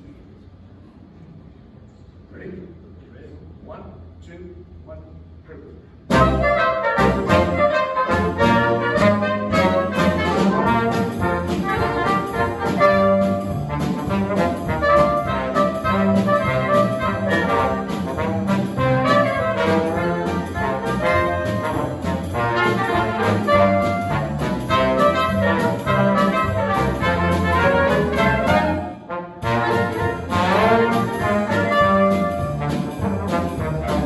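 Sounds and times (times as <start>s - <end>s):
jazz band playing: 6.1s - 34.0s
trumpet and trombone: 6.1s - 34.0s.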